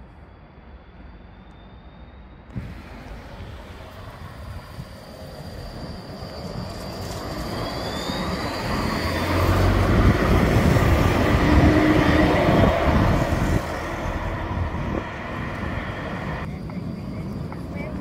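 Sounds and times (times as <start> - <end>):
tram wheels rumbling on rails: 2.5 - 18.0.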